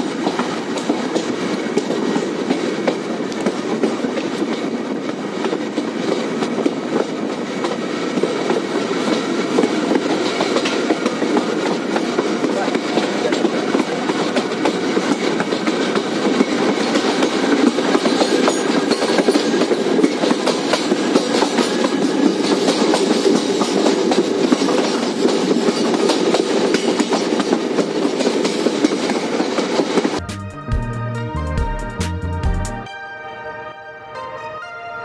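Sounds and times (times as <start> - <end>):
wheels clattering on rails: 0.0 - 30.2
train coach rumbling: 0.0 - 32.8.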